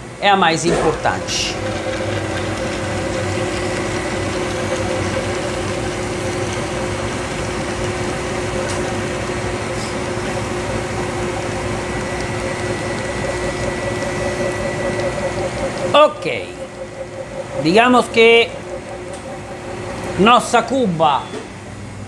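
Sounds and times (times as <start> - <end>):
steady tones: 0.0 - 21.7
machine motor humming: 0.0 - 22.0.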